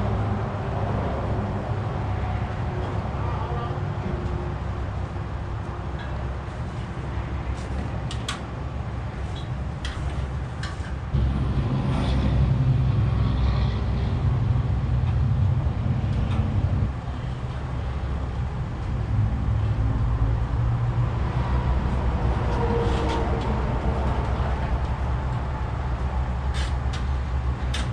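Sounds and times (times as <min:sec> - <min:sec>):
engine rumbling: 0:00.0 - 0:27.9.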